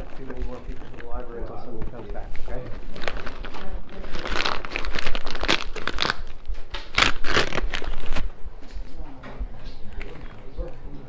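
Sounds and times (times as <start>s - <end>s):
crumpling and crinkling by hand: 0.0s - 11.0s.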